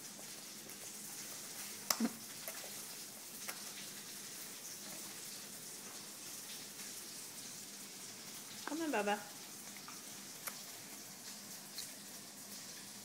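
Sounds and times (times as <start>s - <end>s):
faint room noise hiss: 0.0s - 13.0s.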